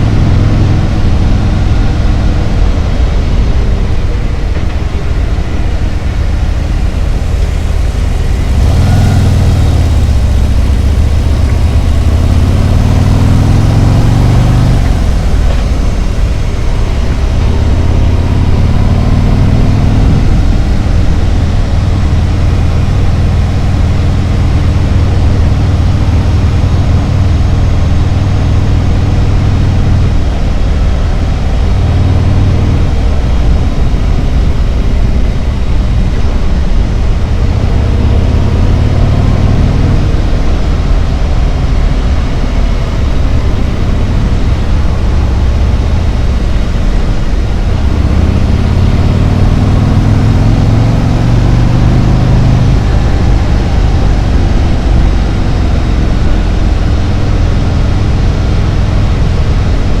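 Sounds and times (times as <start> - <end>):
motorcycle engine running: 0.0 - 60.0
road noise: 0.0 - 60.0
rushing wind: 0.0 - 60.0.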